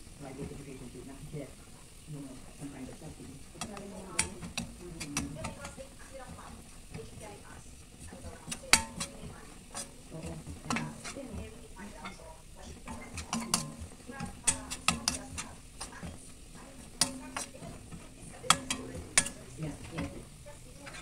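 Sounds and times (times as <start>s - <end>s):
frying sizzle: 0.0s - 21.0s
metal spatula scraping a wok: 2.4s - 21.0s.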